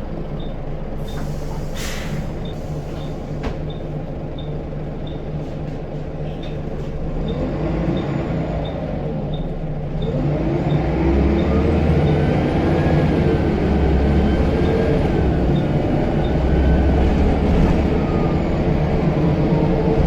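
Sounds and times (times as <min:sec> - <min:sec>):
bus engine pulling under load: 0:00.0 - 0:20.0.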